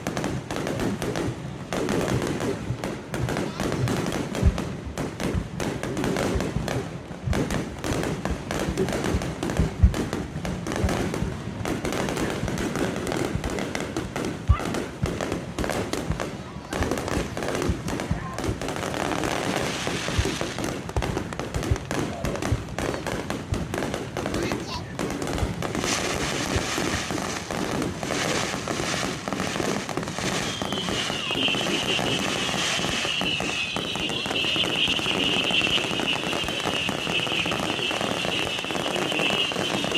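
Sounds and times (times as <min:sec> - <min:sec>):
fireworks booming and crackling: 0:00.0 - 0:39.9.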